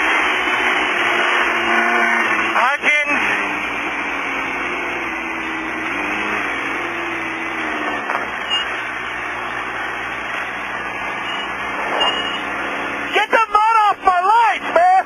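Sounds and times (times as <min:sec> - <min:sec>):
rough terrain noise: 0:00.0 - 0:13.1
race car engine at speed: 0:00.0 - 0:15.0.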